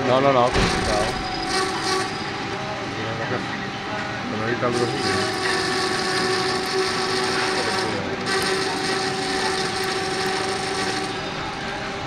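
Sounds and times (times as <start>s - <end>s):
metal lathe whirring: 0.0s - 12.0s.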